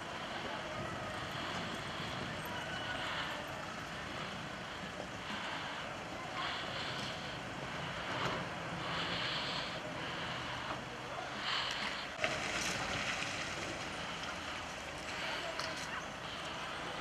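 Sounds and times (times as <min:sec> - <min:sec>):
outdoor noise: 0:00.0 - 0:17.0
van engine passing: 0:00.0 - 0:17.0.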